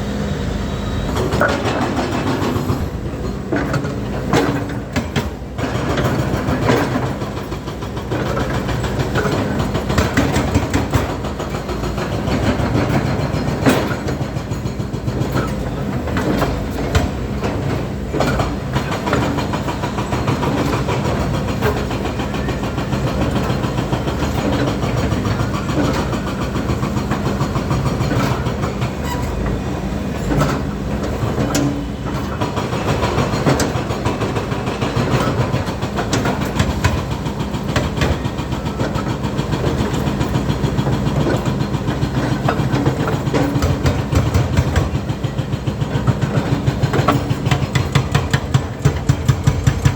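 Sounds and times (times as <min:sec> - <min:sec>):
excavator diesel engine running: 0:00.0 - 0:49.9
metallic clanks and knocks: 0:01.2 - 0:49.9.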